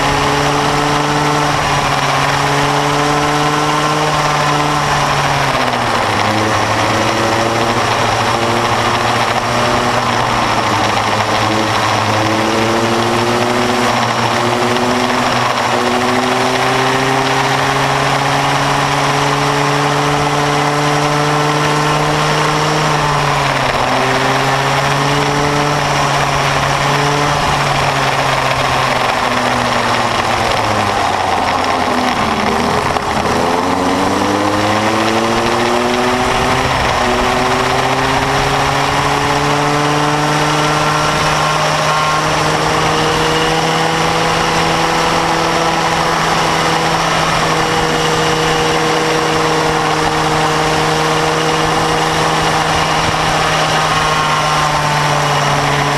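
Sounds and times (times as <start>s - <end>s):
kart two-stroke engine revving: 0.0s - 55.9s.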